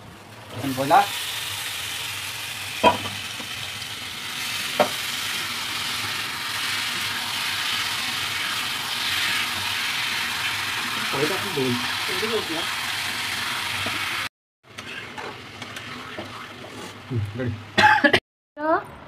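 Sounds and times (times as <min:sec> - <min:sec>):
chicken sizzling in hot oil: 0:00.3 - 0:17.0.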